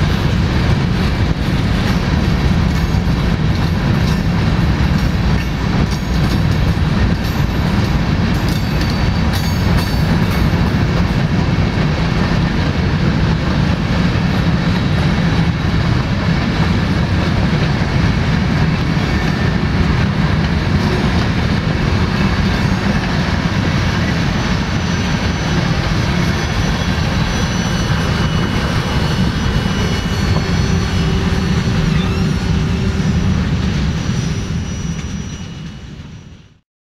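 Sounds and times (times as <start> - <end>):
freight train wheels rumbling on rail: 0.0 - 36.6.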